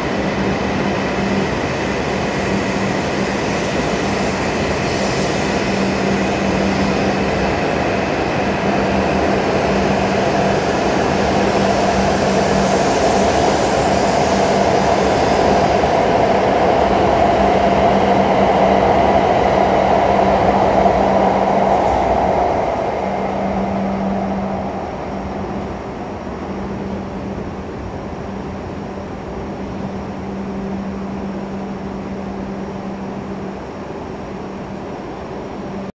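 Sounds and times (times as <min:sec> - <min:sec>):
train passing close by: 0:00.0 - 0:35.9.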